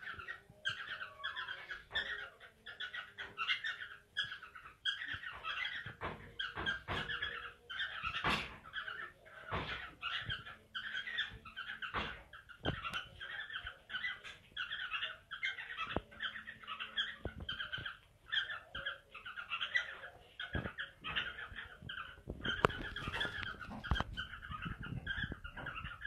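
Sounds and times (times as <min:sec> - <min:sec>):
cockatiels chattering: 0:00.0 - 0:26.0.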